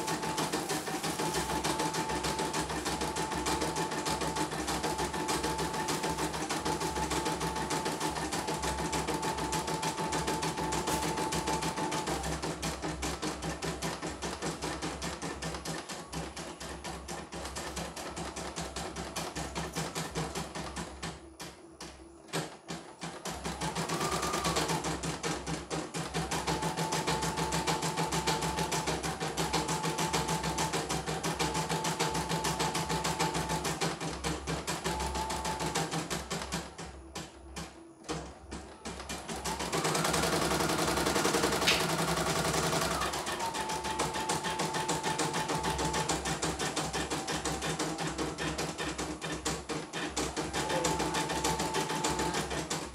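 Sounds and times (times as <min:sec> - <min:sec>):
embroidery machine stitching: 0:00.0 - 0:52.9.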